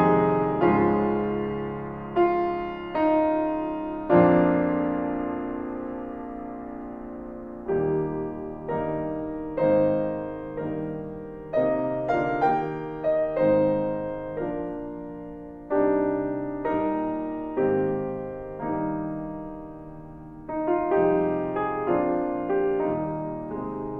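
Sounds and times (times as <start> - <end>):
slow gentle piano piece: 0.0 - 23.9.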